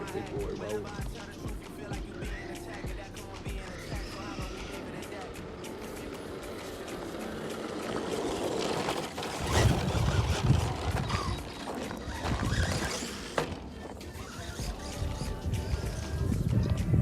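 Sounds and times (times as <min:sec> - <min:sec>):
rc truck motor and tyres: 0:00.0 - 0:17.0.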